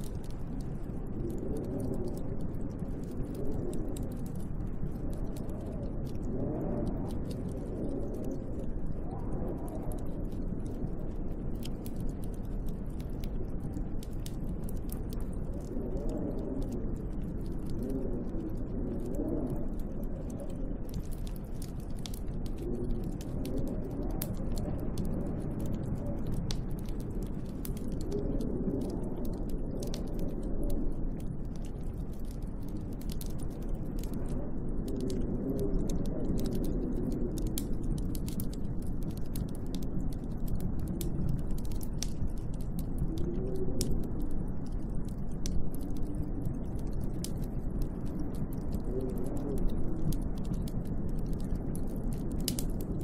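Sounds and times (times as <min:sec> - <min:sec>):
faint crackling ticks: 0:00.0 - 0:53.0.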